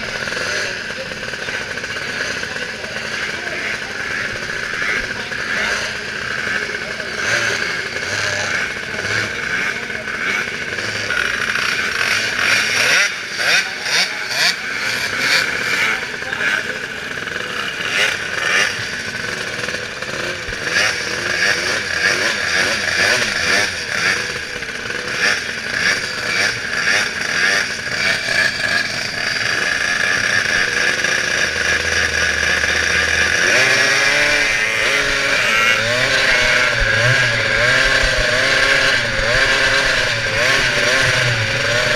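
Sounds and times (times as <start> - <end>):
monster truck engines revving: 0.0 - 41.9.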